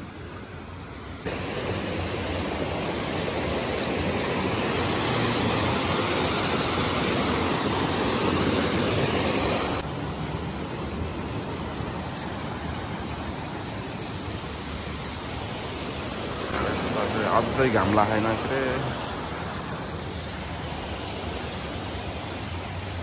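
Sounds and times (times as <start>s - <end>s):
stream rushing over boulders: 0.0s - 23.0s.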